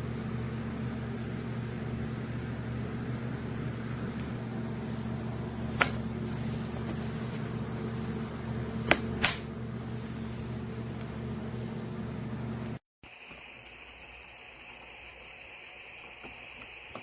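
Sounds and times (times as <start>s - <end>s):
machine hum: 0.0s - 16.2s.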